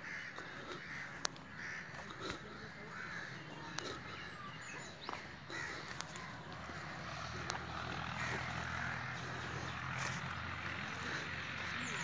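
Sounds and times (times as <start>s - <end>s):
bird calls: 0.0s - 12.0s
crows cawing: 0.0s - 12.0s.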